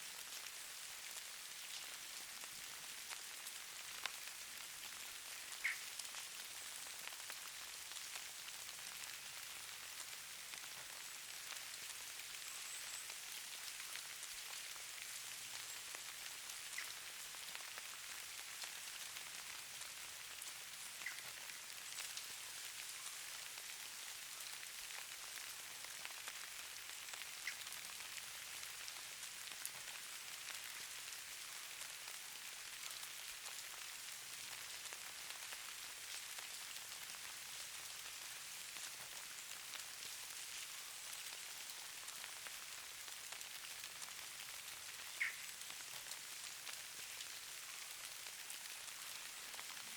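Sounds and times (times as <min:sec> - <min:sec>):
rain pattering softly: 0:00.0 - 0:49.9.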